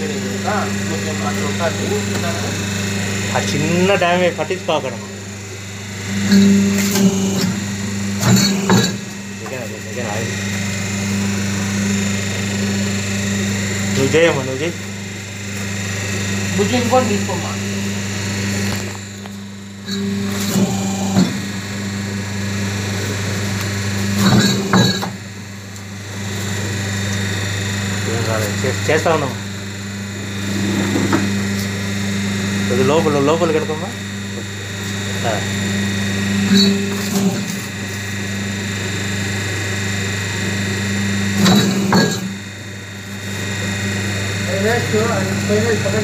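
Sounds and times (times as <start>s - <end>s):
paper plate machine humming: 0.0s - 46.0s.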